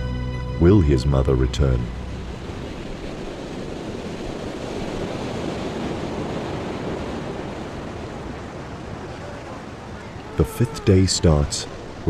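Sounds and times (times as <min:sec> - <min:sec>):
ocean surf rushing: 0:00.6 - 0:12.0.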